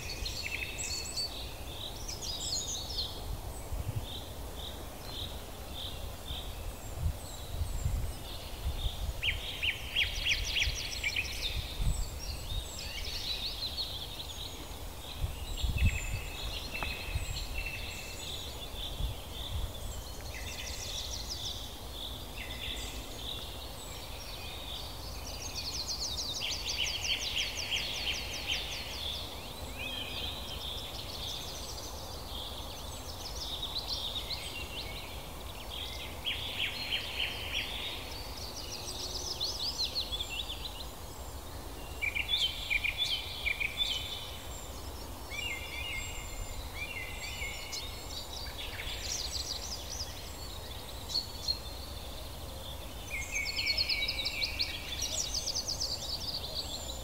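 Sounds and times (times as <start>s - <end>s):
low background noise: 0.0s - 57.0s
songbirds singing: 0.0s - 57.0s.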